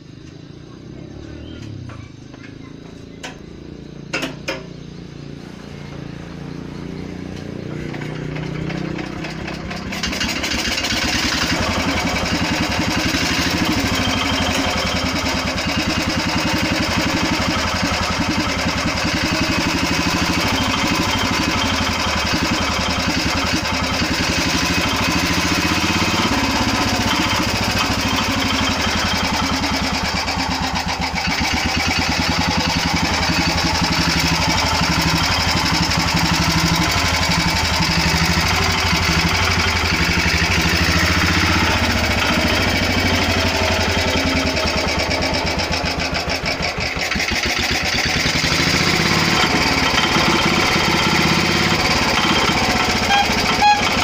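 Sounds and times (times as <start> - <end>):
diesel motorcycle engine chugging: 0.0 - 54.0.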